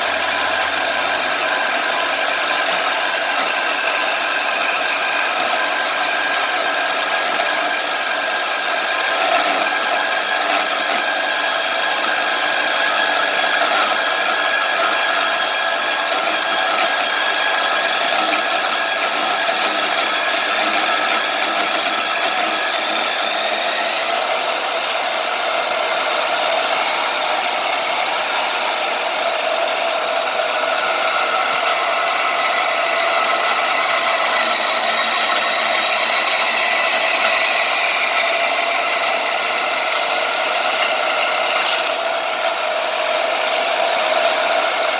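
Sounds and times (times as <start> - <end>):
power tool cutting metal whine: 0.0 - 44.9.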